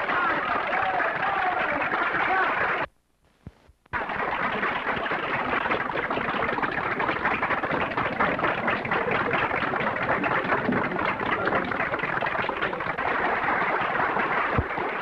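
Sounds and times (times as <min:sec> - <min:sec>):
audience applauding: 0:00.0 - 0:02.9, 0:03.9 - 0:15.0.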